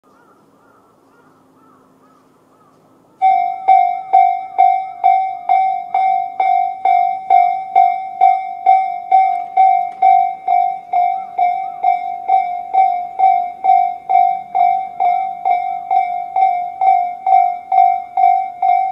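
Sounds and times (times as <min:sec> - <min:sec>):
electronic level crossing bell: 0:03.2 - 0:18.9.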